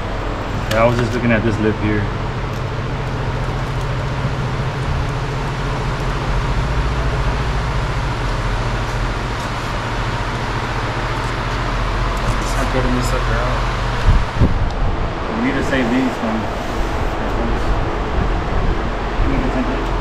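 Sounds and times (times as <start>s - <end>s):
large fan whirring: 0.0s - 20.0s.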